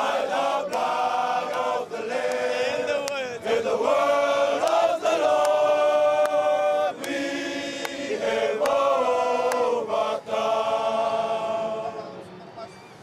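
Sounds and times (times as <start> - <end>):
men singing a hymn: 0.0 - 12.3.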